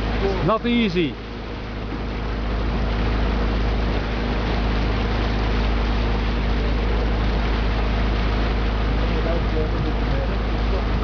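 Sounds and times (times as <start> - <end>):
motorboat engine humming: 0.0 - 11.0
water rushing along hull: 0.0 - 11.0.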